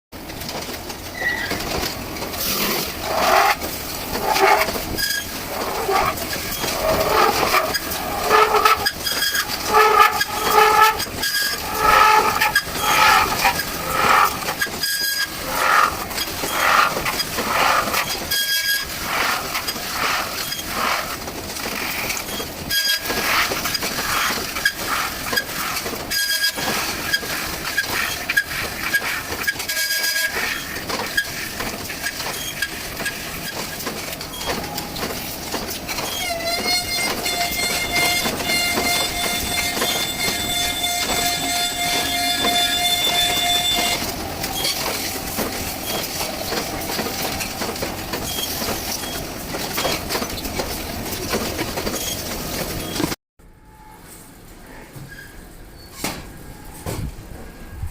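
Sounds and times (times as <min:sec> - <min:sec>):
metal spinning machine running: 0:00.2 - 0:53.1.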